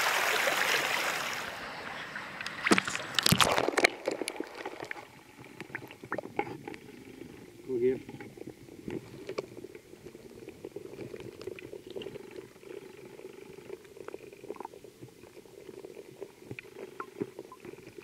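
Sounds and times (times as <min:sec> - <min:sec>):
muffled underwater water rushing: 0:00.0 - 0:18.0
small clicks and ticks: 0:02.4 - 0:18.0.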